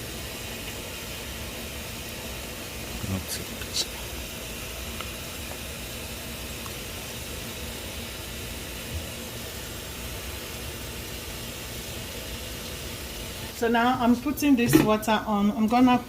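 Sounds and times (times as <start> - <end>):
steady hiss: 0.0 - 14.4.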